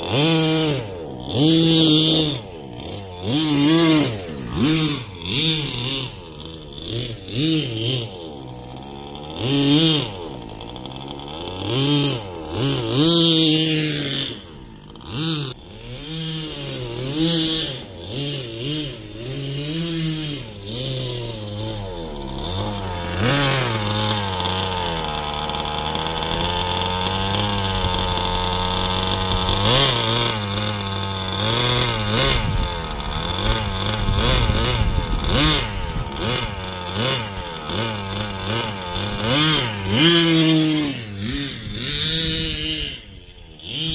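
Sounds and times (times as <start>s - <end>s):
nitro engine revving: 0.0s - 43.9s.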